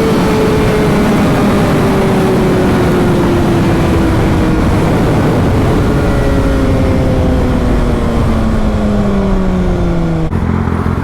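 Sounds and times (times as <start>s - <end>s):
motorcycle engine slowing: 0.0s - 11.0s
wind noise: 0.0s - 11.0s.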